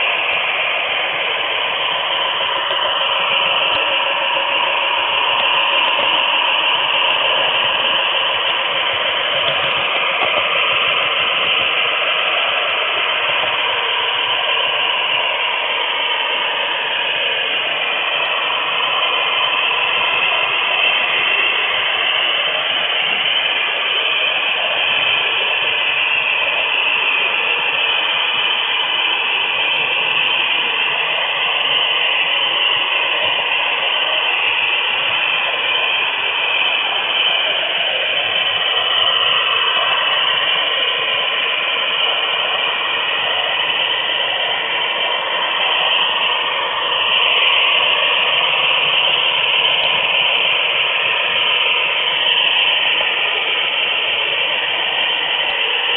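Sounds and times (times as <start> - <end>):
faint motor whine: 0.0 - 55.9
model train wheels rattling on rail: 0.0 - 55.9.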